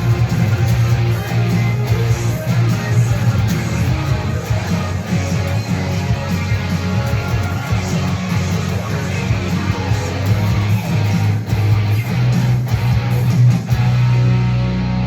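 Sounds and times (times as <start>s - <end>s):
guitar music with bass: 0.0s - 15.0s.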